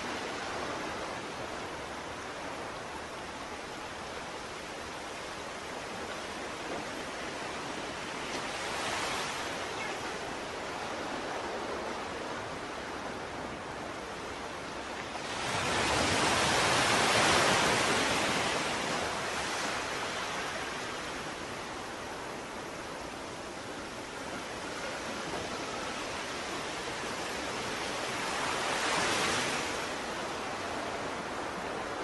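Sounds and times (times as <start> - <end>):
ocean waves washing: 0.0 - 32.0.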